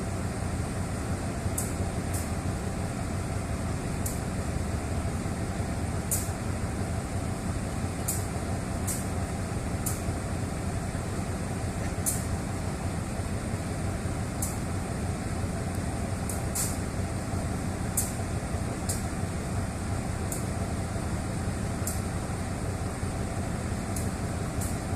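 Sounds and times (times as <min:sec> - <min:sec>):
locomotive engine drone: 0:00.0 - 0:24.9.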